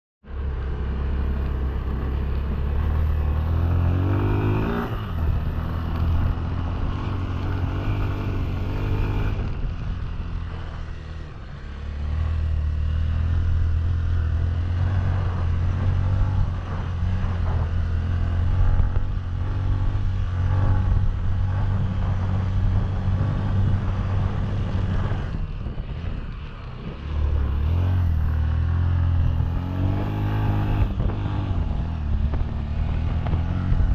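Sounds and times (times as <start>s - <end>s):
motorcycle engine under load: 0.3s - 33.9s.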